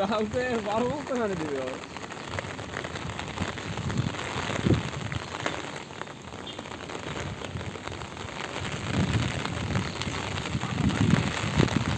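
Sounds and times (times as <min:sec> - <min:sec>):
rain falling on water: 0:00.0 - 0:11.9.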